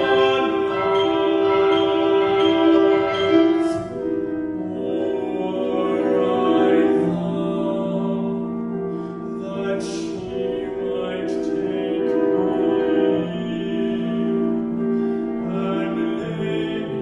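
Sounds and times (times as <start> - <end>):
man singing art song: 0.0 - 17.0
piano accompaniment: 0.0 - 17.0.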